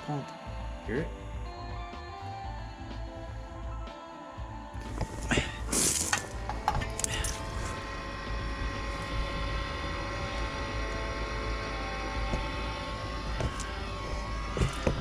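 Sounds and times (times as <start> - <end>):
blower fan whirring: 0.0 - 15.0.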